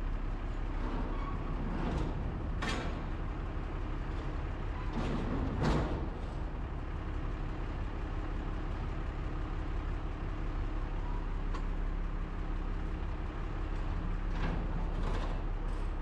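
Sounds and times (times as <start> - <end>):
truck engine idling: 0.0 - 4.8, 6.0 - 16.0.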